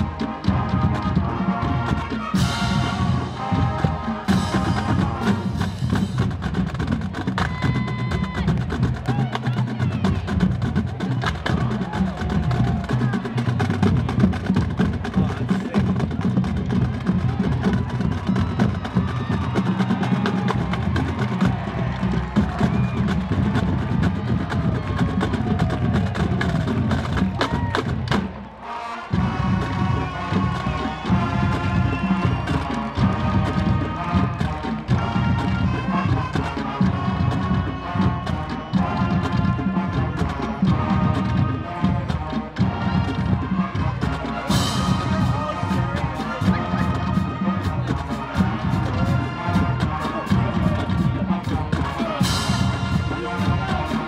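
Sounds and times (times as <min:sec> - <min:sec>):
bass drums: 0:00.0 - 0:28.4, 0:29.1 - 0:54.0
snare drums: 0:00.0 - 0:54.0
tenor drums: 0:00.0 - 0:54.0.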